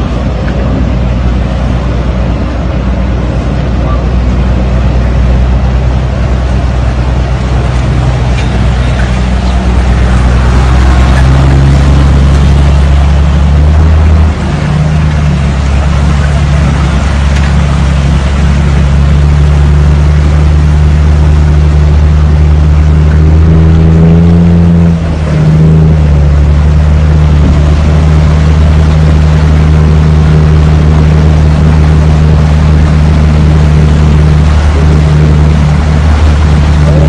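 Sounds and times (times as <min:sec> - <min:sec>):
floodwater rushing across road: 0:00.0 - 0:37.0
vehicle engine running: 0:00.0 - 0:37.0.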